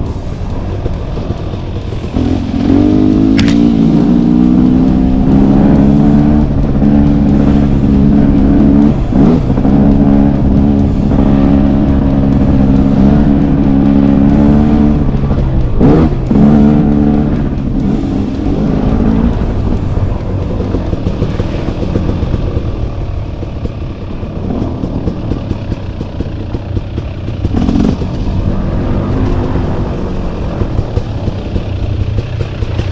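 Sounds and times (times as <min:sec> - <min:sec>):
dirt bike engine running: 0:00.0 - 0:32.9.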